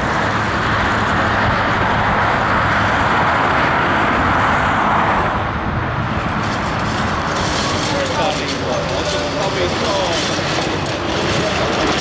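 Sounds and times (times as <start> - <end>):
excavator running: 0.0 - 12.0
passing road traffic: 0.0 - 12.0.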